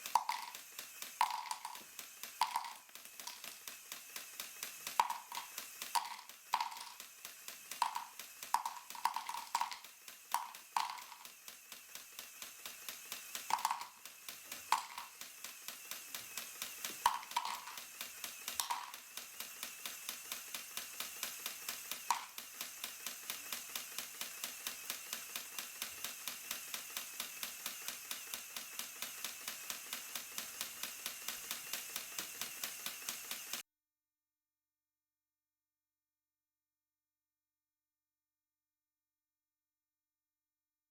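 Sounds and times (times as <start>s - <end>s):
rapid ticking of plastic track: 0.0s - 33.6s.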